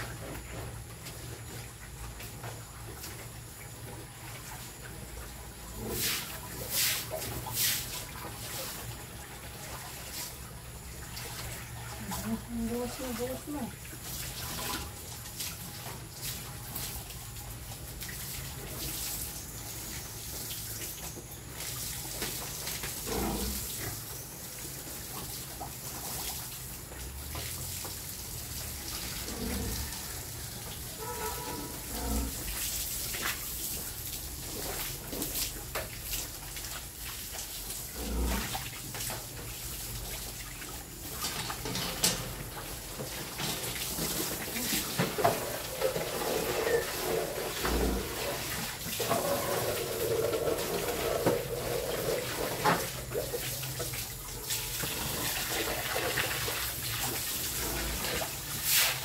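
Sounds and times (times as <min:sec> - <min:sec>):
water running and splashing: 0:00.0 - 0:59.0.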